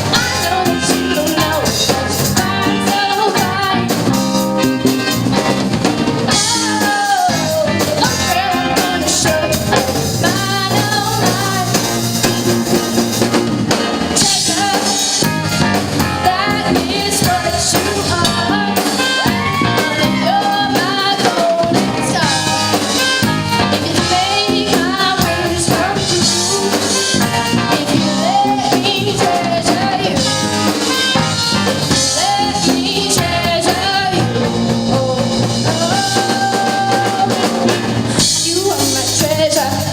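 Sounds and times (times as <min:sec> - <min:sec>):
girl singing lead: 0:00.0 - 0:05.4, 0:06.2 - 0:12.6, 0:13.2 - 0:39.9
bass guitar: 0:00.0 - 0:39.9
drums: 0:00.0 - 0:39.9
electric guitar: 0:00.0 - 0:39.9
keyboard: 0:00.0 - 0:39.9.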